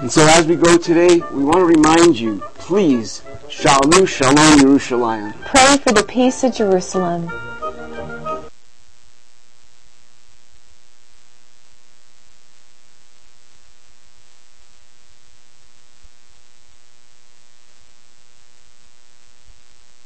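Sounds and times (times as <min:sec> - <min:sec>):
constant hiss: 0:00.0 - 0:20.0
electrical hum: 0:00.0 - 0:20.0.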